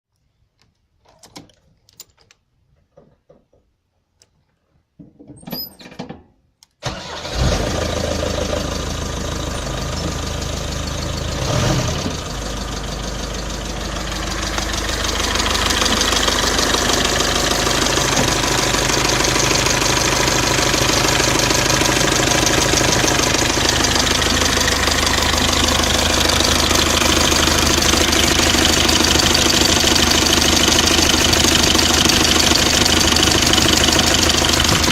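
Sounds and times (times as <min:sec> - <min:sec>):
diesel engine starting and idling: 0:06.8 - 0:34.9.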